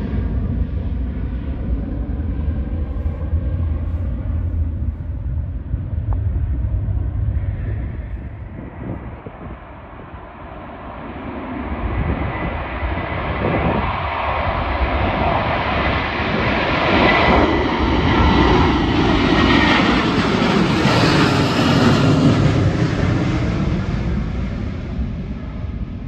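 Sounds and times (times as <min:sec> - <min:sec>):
jet airliner taking off: 0:00.0 - 0:26.0.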